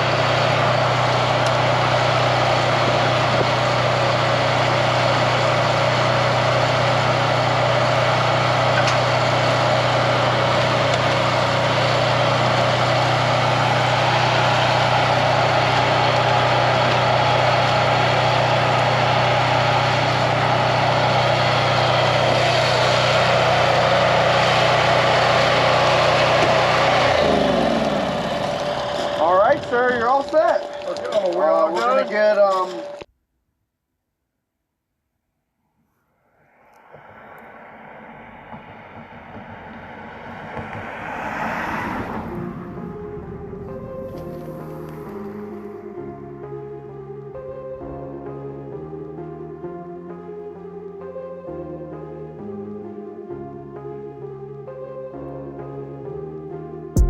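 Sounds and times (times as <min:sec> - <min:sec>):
engine-like machine hum: 0:00.0 - 0:31.4, 0:36.0 - 0:57.0.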